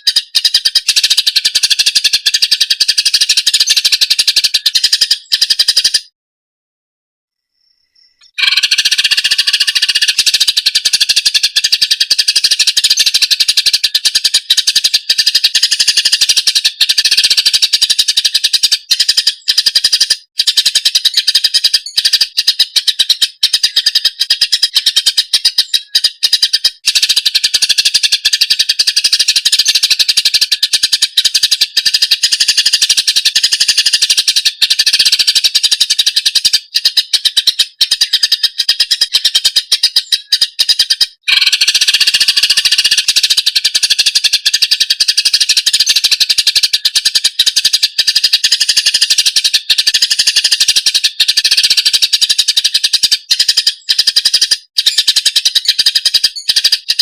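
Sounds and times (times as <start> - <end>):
bird singing high chattering notes: 0.0 - 6.1, 7.9 - 57.0.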